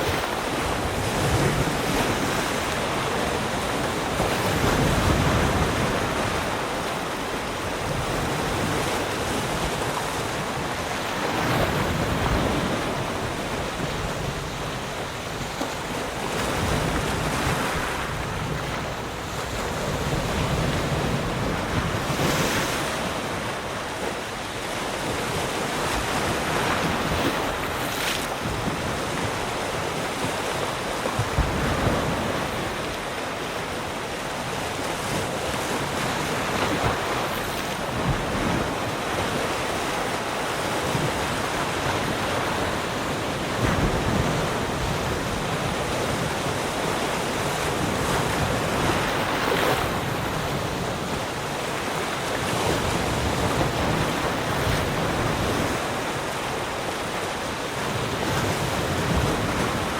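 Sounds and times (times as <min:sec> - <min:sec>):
wind noise on microphone: 0:00.0 - 0:32.9, 0:35.0 - 0:59.9
waves breaking: 0:00.0 - 0:59.9
waves washing onto shore: 0:00.0 - 0:59.9.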